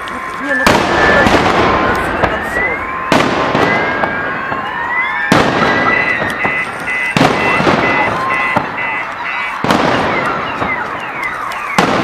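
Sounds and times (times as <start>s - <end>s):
fireworks bangs: 0.0s - 12.0s
fireworks crackle: 0.0s - 12.0s
car alarm beeping: 0.1s - 12.0s
rising whistles: 2.1s - 11.9s.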